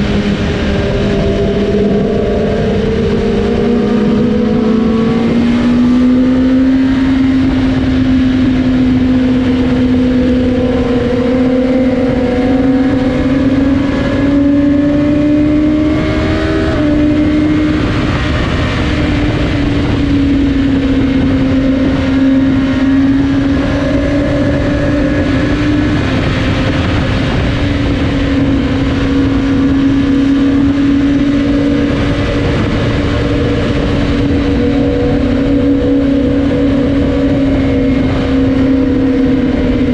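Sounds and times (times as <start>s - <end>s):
motorcycle engines at speed: 0.0s - 39.9s
wind noise: 0.0s - 39.9s.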